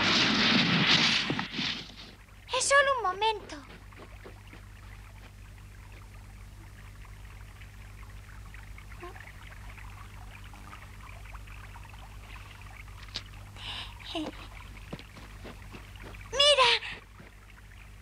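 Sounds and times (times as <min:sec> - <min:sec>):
steady low hum: 0:00.0 - 0:18.0
water trickling and dripping: 0:02.1 - 0:18.0.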